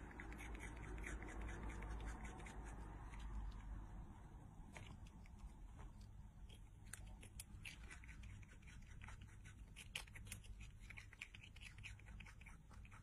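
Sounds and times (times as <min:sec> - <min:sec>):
rodent crunching carrot: 0:00.0 - 0:13.0.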